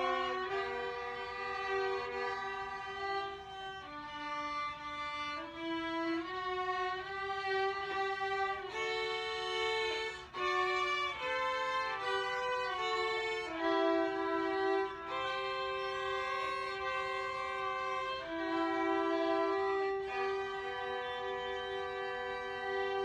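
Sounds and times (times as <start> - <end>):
violins playing slow piece: 0.0 - 23.0.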